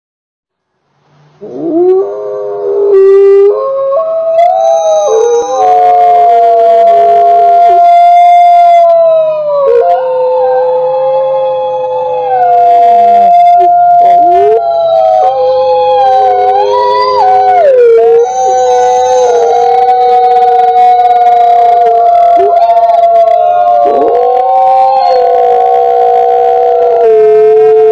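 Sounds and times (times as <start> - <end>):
wolves howling: 1.4 - 27.9.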